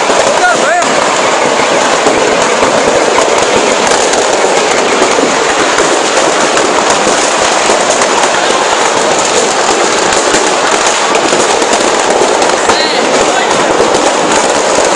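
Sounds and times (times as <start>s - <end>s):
fireworks crackling: 0.0s - 14.9s.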